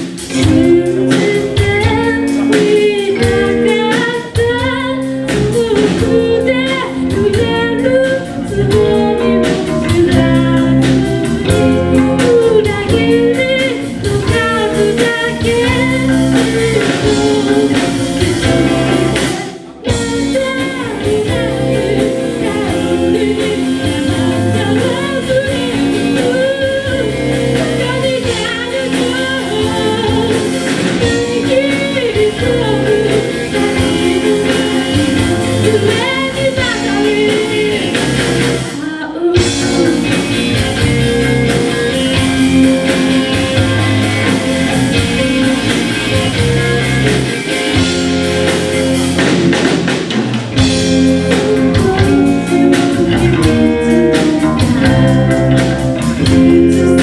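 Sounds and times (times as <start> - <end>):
person singing: 0.0 - 47.9, 50.6 - 57.0
rock band playing live: 0.0 - 57.0.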